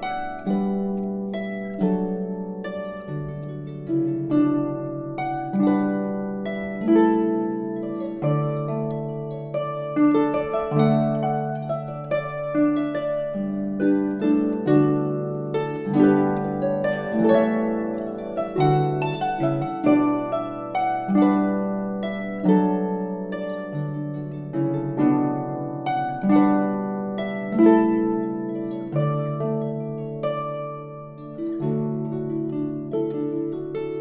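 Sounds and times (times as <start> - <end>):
harp melody: 0.0 - 34.0.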